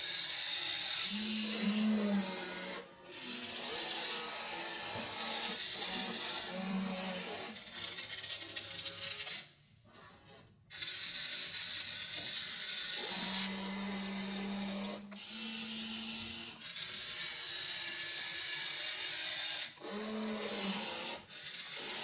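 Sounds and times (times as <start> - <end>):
small electric motors whirring: 0.0 - 22.0.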